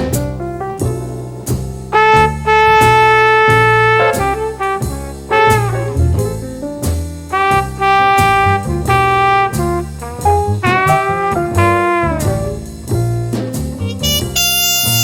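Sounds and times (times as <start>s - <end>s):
jazz music with brass horns: 0.0s - 15.0s.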